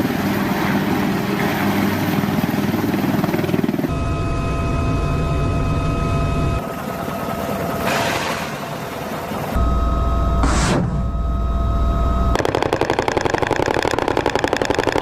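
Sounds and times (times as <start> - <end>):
high turbine whine: 0.0 - 12.8
helicopter rotors pulsing: 0.0 - 15.0.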